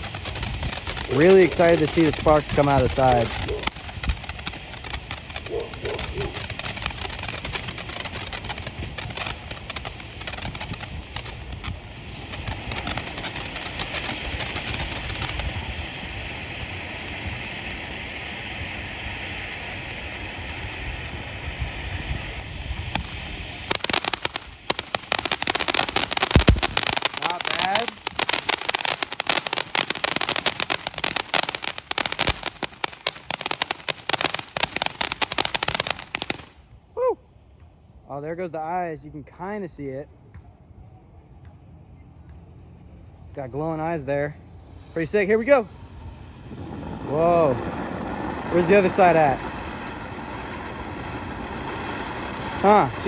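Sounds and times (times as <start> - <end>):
firework spraying hiss: 0.0 - 36.7, 41.6 - 53.0
firework crackling pops: 0.0 - 37.8, 41.1 - 53.0.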